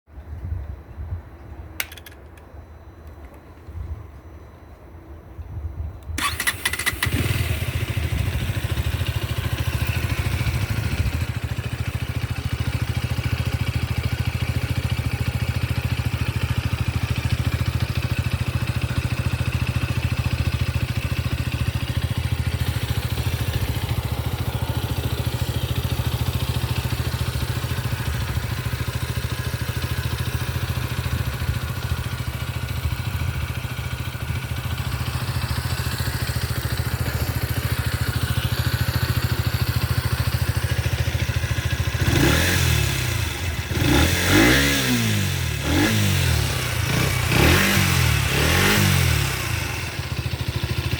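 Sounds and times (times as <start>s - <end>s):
motorcycle engine idling: 6.2s - 50.9s.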